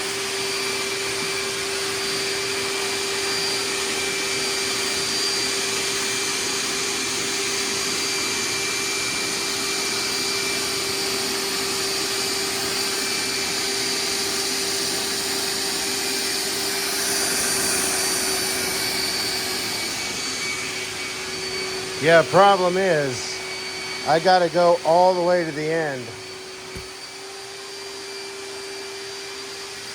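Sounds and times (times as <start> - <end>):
wet vacuum motor whine: 0.0 - 29.9.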